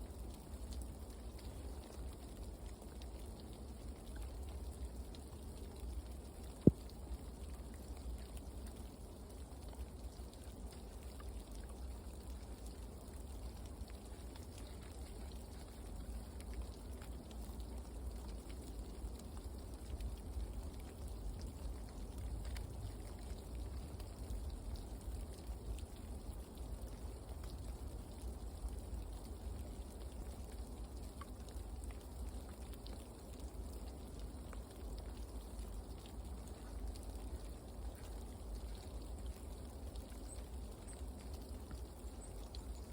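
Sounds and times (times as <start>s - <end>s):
faint ticks of drops: 0.0s - 42.9s
light rain falling: 0.0s - 42.9s.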